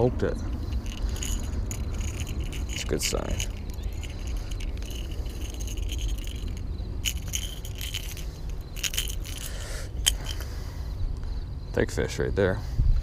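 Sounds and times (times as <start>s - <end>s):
fishing lure hooks jingling: 0.0s - 10.6s
steady low rumble: 0.0s - 11.7s.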